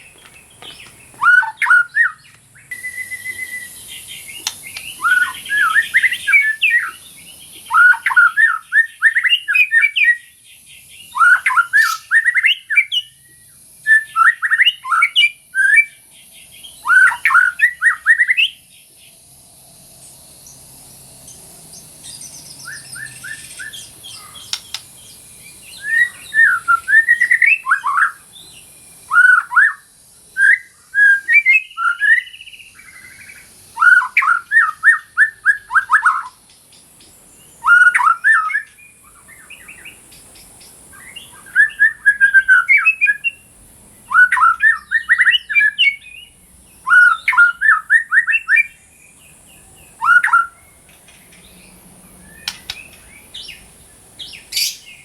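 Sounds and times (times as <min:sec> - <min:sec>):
bird singing whistled notes: 0:00.0 - 0:19.2, 0:21.3 - 0:55.0.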